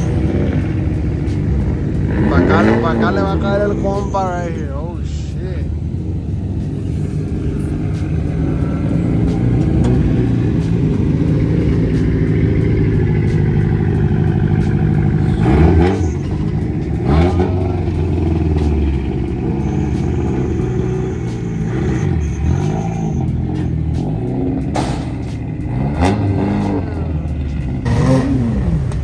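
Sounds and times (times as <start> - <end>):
car engines running: 0.0 - 29.0
engine revving: 0.0 - 29.0.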